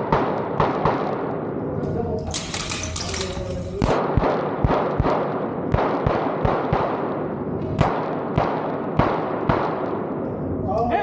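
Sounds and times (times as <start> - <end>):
pistol shots: 0.0 - 1.5, 2.3 - 10.2.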